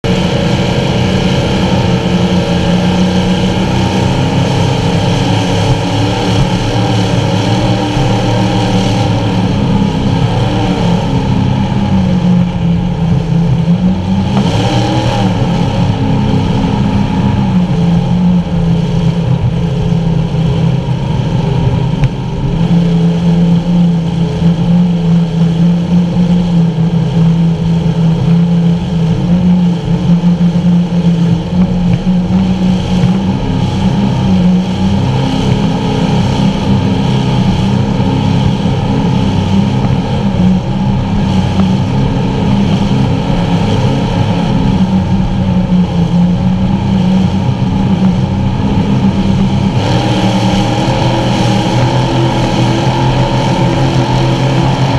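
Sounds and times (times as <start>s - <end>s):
boat engines running hard: 0.0s - 54.9s
wind and water rushing: 0.0s - 54.9s.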